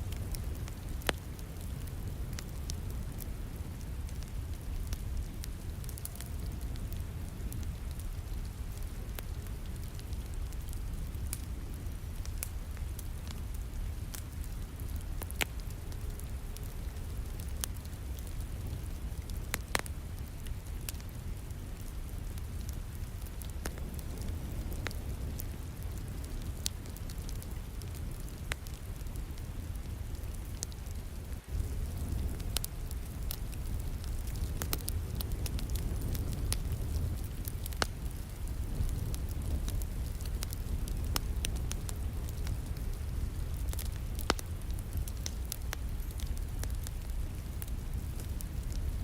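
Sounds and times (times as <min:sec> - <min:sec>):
wood fire crackling and popping: 0:00.0 - 0:49.0
falling rain: 0:02.0 - 0:49.0.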